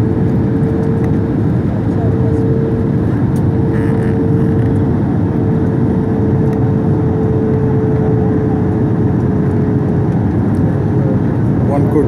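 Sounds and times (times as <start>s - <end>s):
engine and airflow rumble: 0.0s - 12.0s
steady cabin hum: 0.0s - 12.0s.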